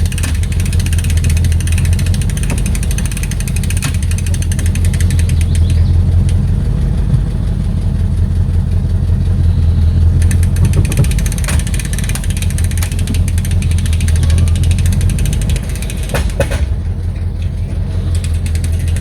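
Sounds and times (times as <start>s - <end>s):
clicks and rattles: 0.0s - 19.0s
engine idling: 0.0s - 19.0s.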